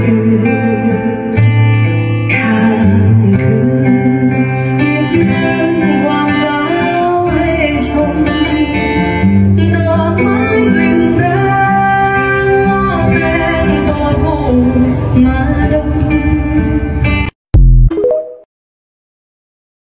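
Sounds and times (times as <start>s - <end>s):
song with singing over guitar: 0.0s - 17.3s.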